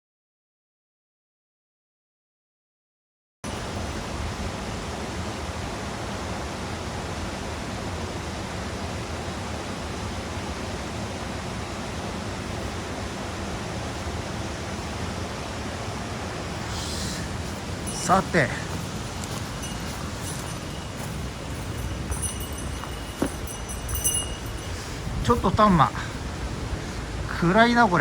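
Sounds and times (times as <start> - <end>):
stream water rushing: 3.5 - 28.0.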